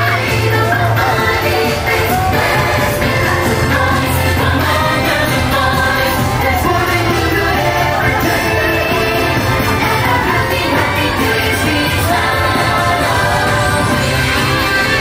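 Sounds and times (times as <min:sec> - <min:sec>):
loud parade music with singing: 0:00.0 - 0:15.0.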